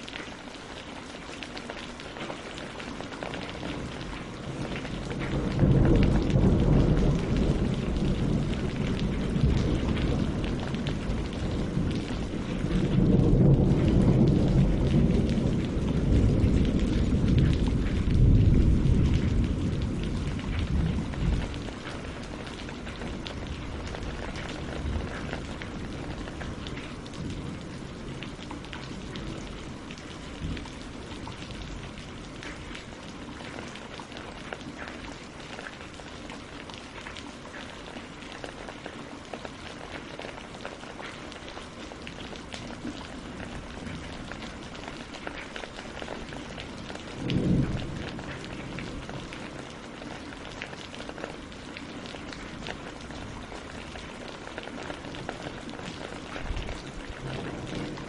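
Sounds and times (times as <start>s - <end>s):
rain on water and leaves: 0.0s - 58.0s.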